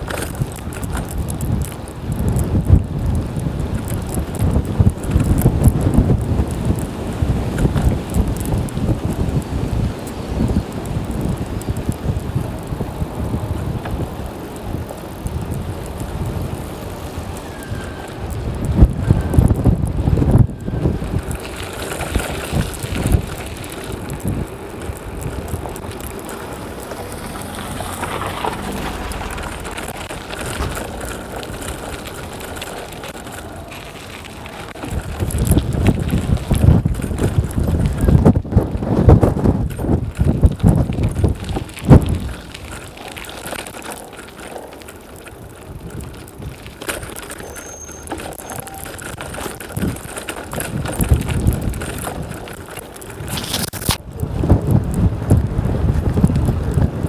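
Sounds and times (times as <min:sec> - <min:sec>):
bicycle tyres hissing on road: 0:00.0 - 0:57.0
wind buffeting microphone: 0:00.0 - 0:57.0.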